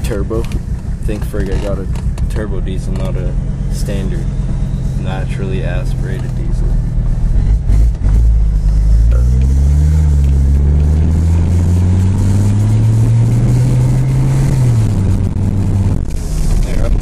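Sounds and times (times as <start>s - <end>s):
diesel engine accelerating: 0.0s - 17.0s.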